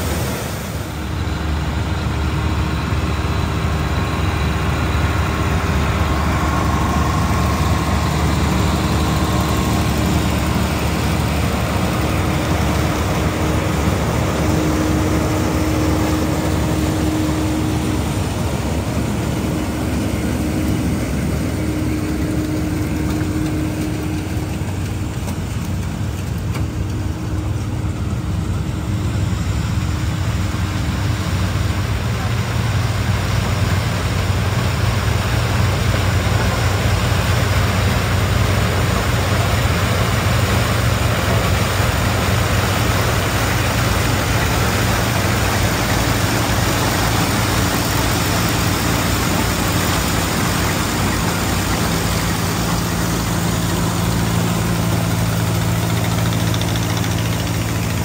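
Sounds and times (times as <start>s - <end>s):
tractor engine drone: 0.0s - 58.0s.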